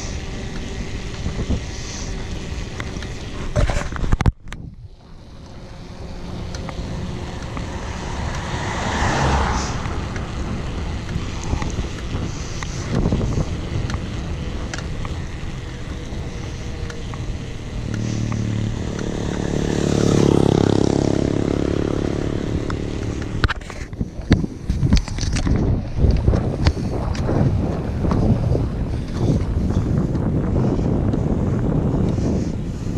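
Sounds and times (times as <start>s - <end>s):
bike tyre noise on road: 0.0s - 32.9s
motor vehicle passing: 0.0s - 32.9s
vehicle engine: 0.0s - 32.9s
wind on microphone: 0.0s - 32.9s.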